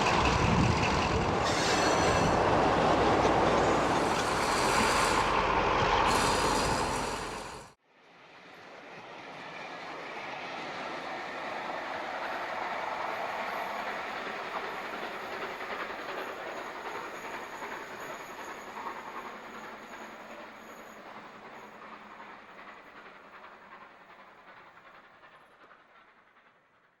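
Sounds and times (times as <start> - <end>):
train passing: 0.0 - 27.0
train wheels on rails: 0.0 - 27.0.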